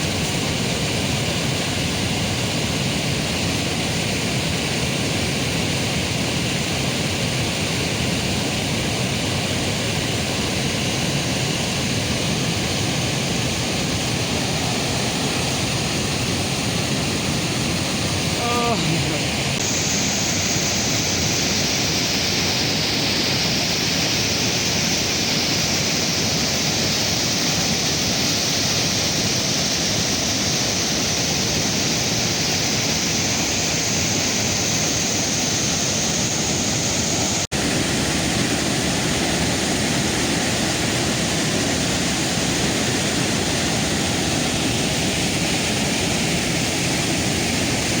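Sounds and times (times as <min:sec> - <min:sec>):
waterfall roaring: 0:00.0 - 0:48.0.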